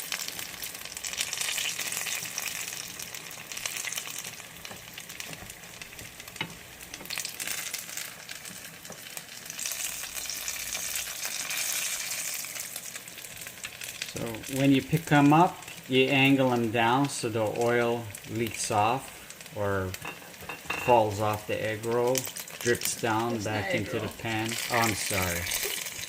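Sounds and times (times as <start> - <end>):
spring rolls frying in oil: 0.0 - 26.0.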